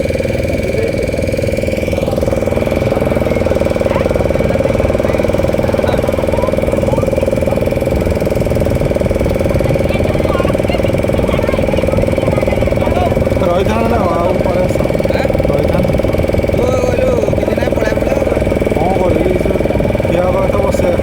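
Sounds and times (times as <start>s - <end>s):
boat engine chugging: 0.0s - 21.0s.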